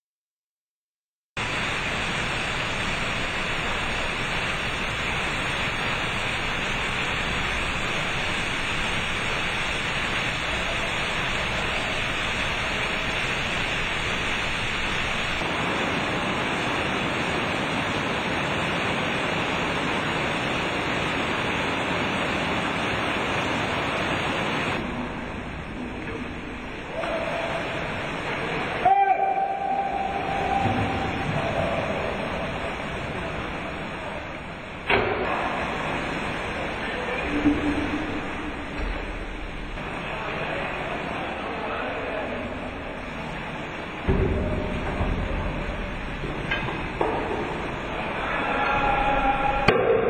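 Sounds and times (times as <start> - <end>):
quieter water sound: 1.4 - 50.0.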